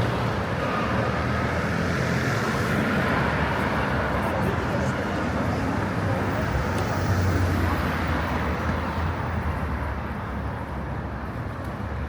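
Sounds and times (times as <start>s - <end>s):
street traffic hum: 0.0s - 12.0s.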